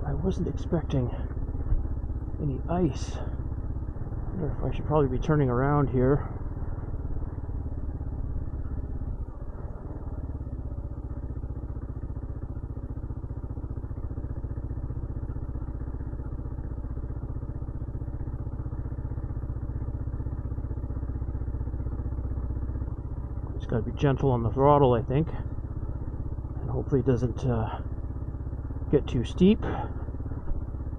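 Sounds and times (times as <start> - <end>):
motorcycle engine at low revs: 0.0 - 30.9.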